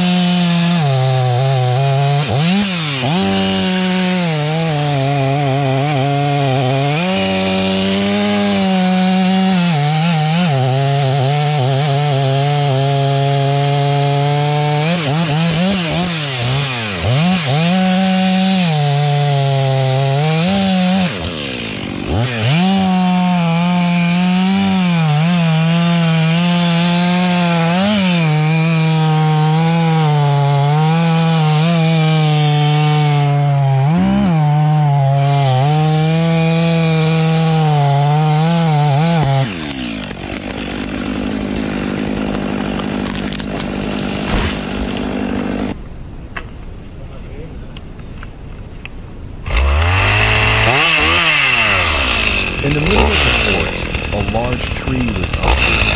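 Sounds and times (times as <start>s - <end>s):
chainsaw cutting wood: 0.0s - 45.8s, 49.4s - 55.9s.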